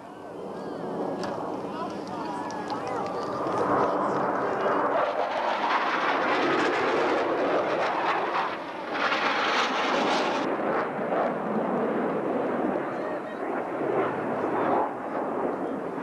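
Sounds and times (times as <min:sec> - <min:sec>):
jets flying overhead: 0:00.0 - 0:16.0.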